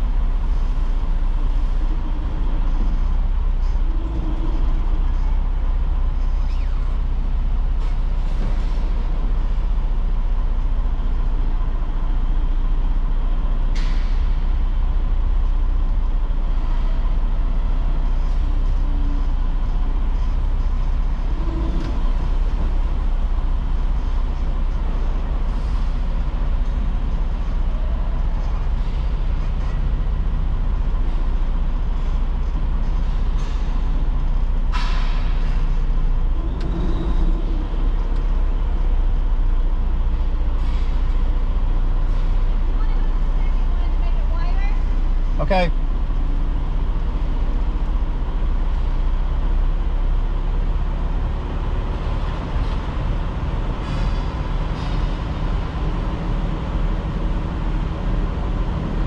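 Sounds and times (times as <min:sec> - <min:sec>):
truck engine rumble: 0:00.0 - 0:59.0.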